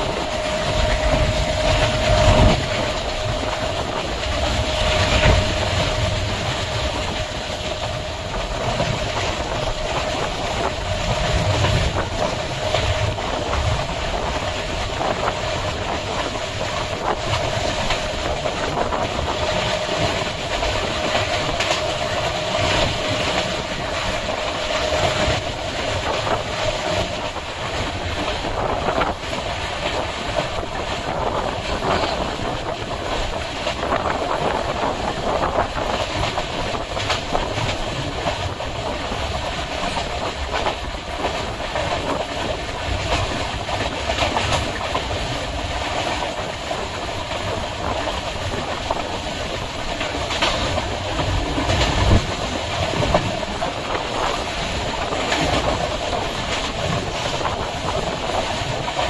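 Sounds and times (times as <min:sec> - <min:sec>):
steady whining tone: 0:00.0 - 0:59.0
train rumble and hiss: 0:00.0 - 0:59.0
wheels clacking over rail joints: 0:00.0 - 0:59.0.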